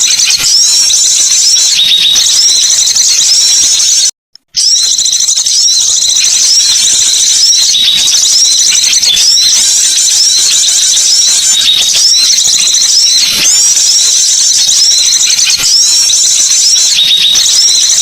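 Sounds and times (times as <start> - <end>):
songbird shrill chirps and twitters: 0.0 - 18.0.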